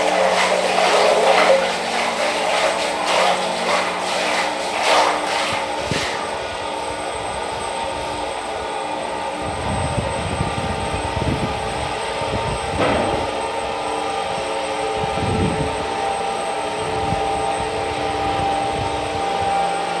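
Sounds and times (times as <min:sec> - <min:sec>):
agitator mechanical drone: 0:00.0 - 0:20.0
water churned by blades: 0:00.0 - 0:20.0.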